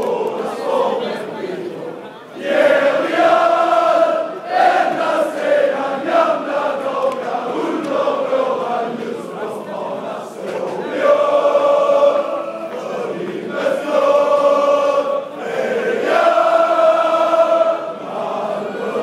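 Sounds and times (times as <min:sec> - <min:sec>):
crowd singing in unison: 0:00.0 - 0:19.0.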